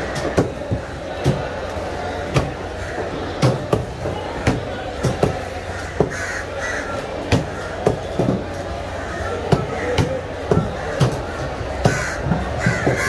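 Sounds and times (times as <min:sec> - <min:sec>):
market chatter: 0:00.0 - 0:13.0.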